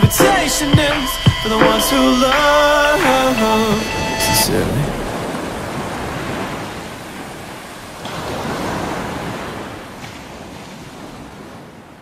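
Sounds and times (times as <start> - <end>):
ocean surf washing in: 0.0 - 12.0.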